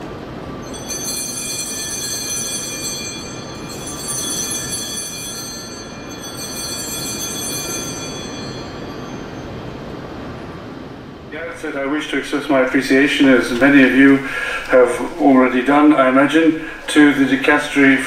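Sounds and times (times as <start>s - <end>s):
altar bells ringing: 0.5s - 10.4s, 11.4s - 18.0s.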